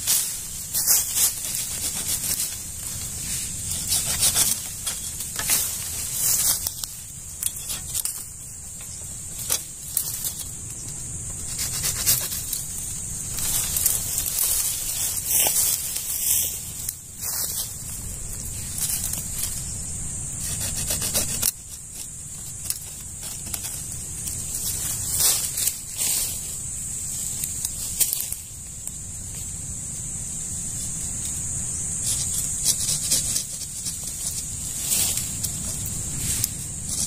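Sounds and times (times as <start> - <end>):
dry leaves crackling and rustling: 0.0 - 37.0
steady high hiss: 0.0 - 37.0.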